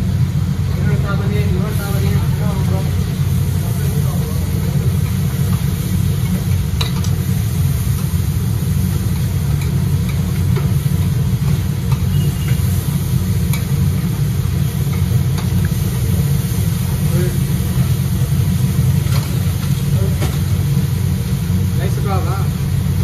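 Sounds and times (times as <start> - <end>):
low rumble of burner: 0.0 - 23.0.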